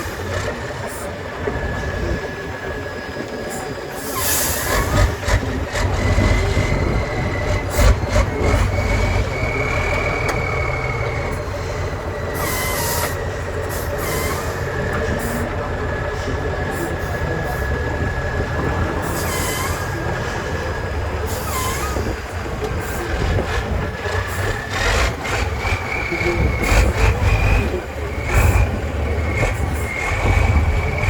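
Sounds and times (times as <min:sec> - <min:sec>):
heavy truck engine running: 0:00.0 - 0:31.0.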